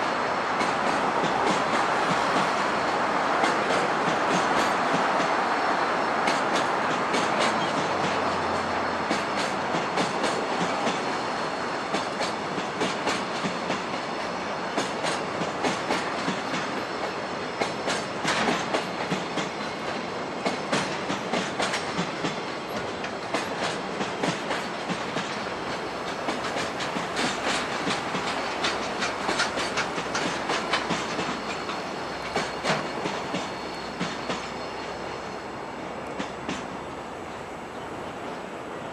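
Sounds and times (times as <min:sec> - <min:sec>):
train wheels clacking over rail joints: 0:00.0 - 0:05.4, 0:06.1 - 0:38.7
train rumbling past: 0:00.0 - 0:38.9.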